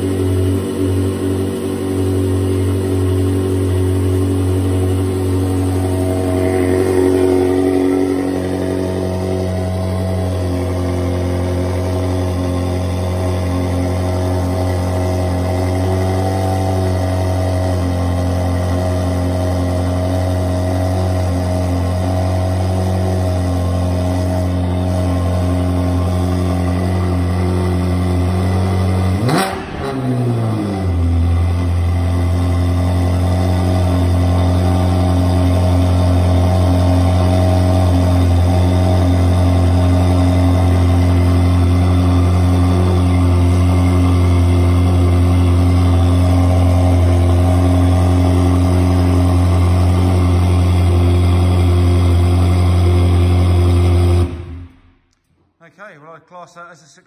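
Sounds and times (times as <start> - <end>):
car engine idling: 0.0 - 55.1.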